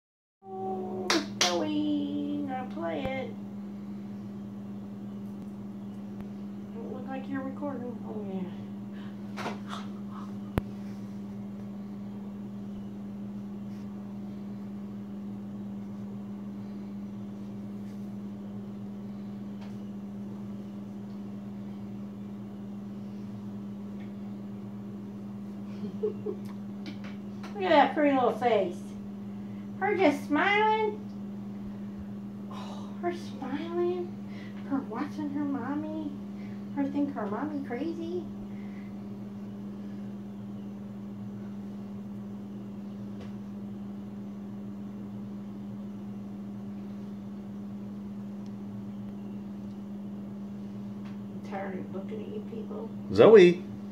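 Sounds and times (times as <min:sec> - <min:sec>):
low electrical hum: 0:00.4 - 0:53.9.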